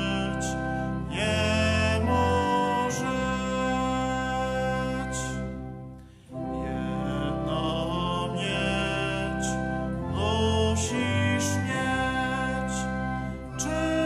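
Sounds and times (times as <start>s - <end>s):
man singing a hymn: 0.0s - 5.6s, 6.4s - 14.0s
instrumental accompaniment: 0.0s - 14.0s.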